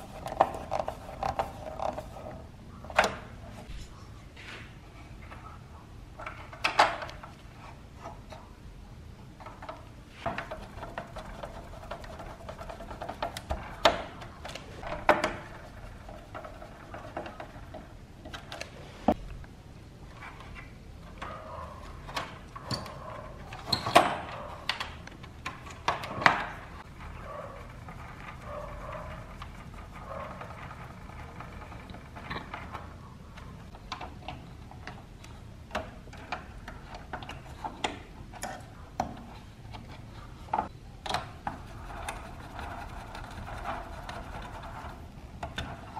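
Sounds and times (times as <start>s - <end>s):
plastic parts clicking and knocking: 0.0s - 3.4s, 6.2s - 8.5s, 9.4s - 18.8s, 20.3s - 45.9s.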